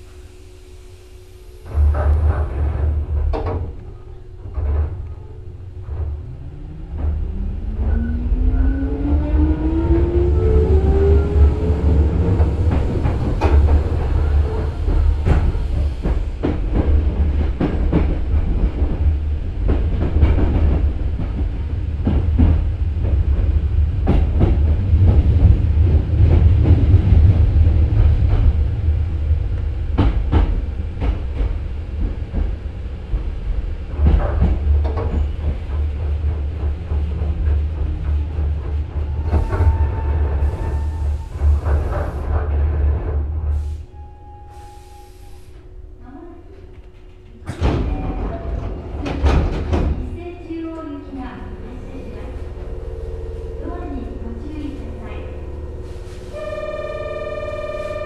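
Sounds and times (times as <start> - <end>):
low train running rumble: 0.0 - 58.0.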